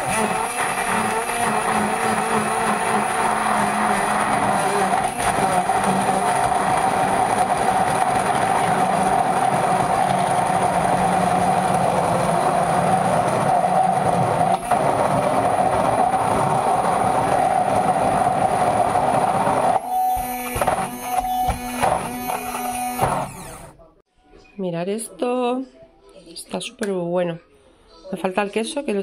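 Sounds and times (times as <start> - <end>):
electric blender running: 0.0 - 23.8.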